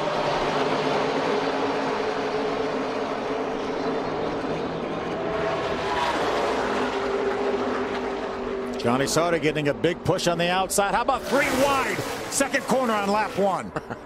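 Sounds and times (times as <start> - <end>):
race truck engines at full throttle: 0.0 - 14.0.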